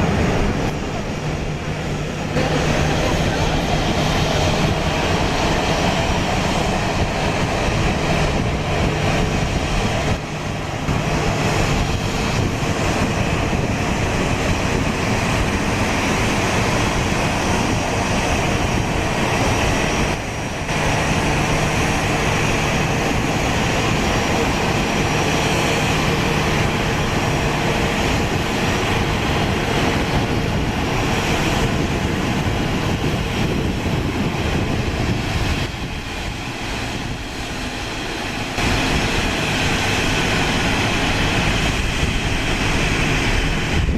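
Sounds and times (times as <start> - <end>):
jet engines at taxi power: 0.0 - 43.9.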